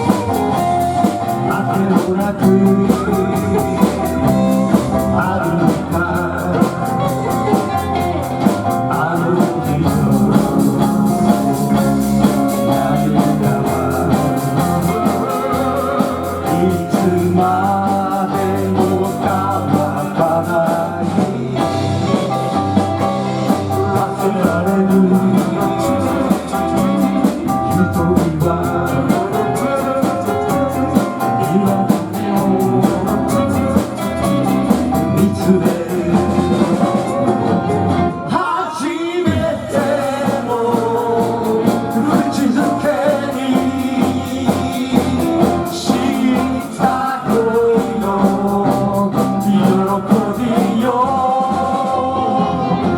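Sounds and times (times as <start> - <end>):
electric guitar: 0.0 - 52.9
person singing: 0.0 - 52.9.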